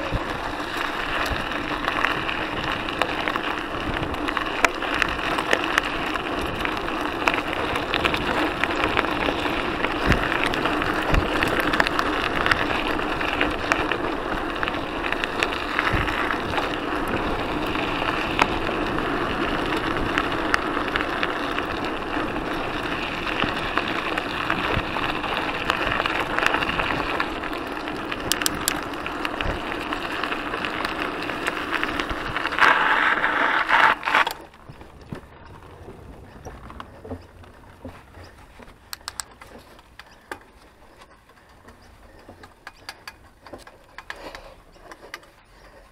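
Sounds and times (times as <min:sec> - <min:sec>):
bike knocking and rattling: 0:00.0 - 0:45.9
tyres rolling on gravel: 0:00.0 - 0:45.9.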